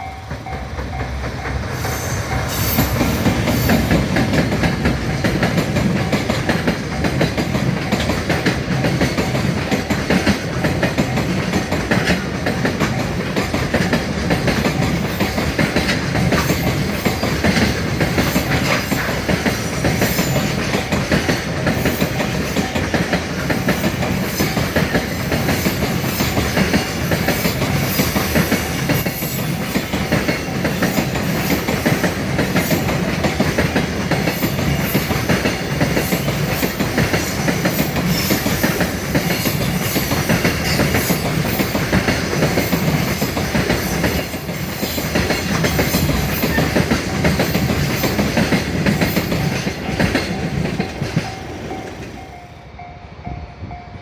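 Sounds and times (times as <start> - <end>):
wagon wheels clattering on rails: 0.0 - 52.4.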